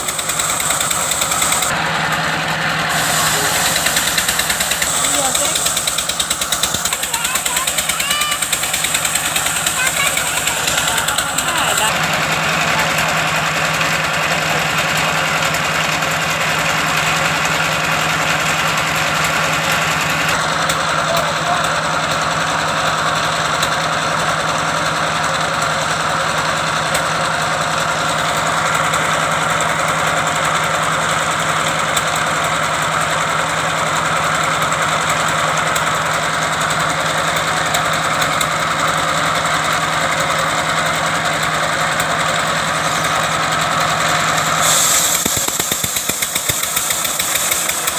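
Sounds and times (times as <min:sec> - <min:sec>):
wood-cutting machine engine humming: 0:00.0 - 0:47.9.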